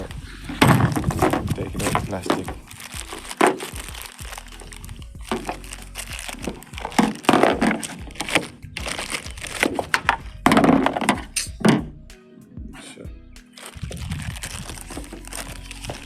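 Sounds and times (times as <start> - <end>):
plastic packaging crackling: 0.0 - 11.4, 13.5 - 16.0.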